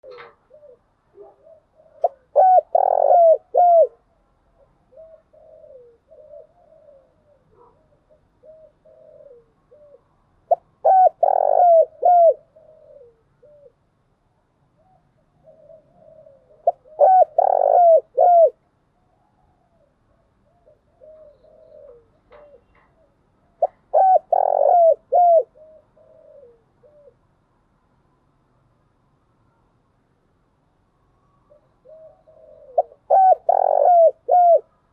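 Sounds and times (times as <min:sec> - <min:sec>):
dove cooing: 0:00.0 - 0:13.9, 0:14.8 - 0:18.6, 0:19.5 - 0:27.3, 0:31.4 - 0:34.8.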